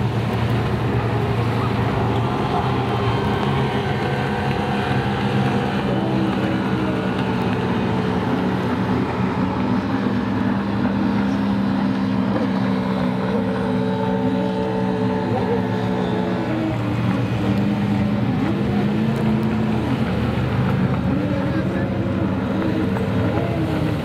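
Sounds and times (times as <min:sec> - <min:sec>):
personal watercraft engines droning: 0:00.0 - 0:24.0.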